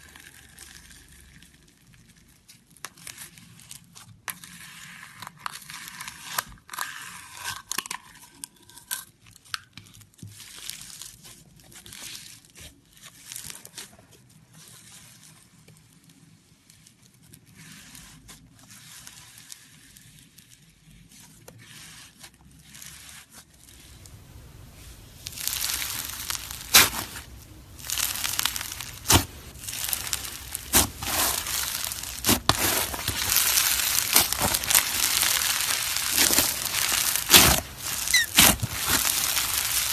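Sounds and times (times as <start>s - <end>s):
slime crackling and crinkling: 0.0s - 39.9s.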